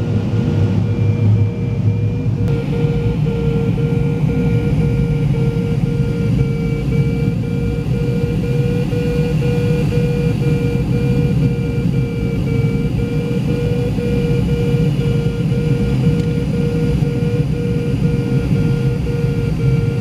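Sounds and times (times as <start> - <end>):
variometer beeping: 0.3 - 20.0.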